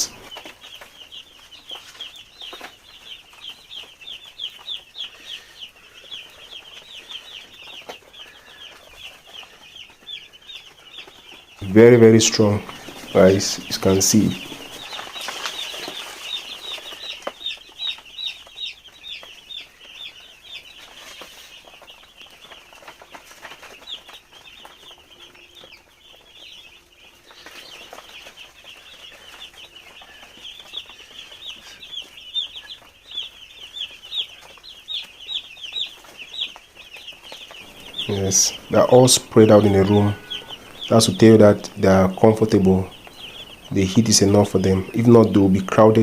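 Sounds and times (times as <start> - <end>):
chicks peeping: 0.0 - 46.0.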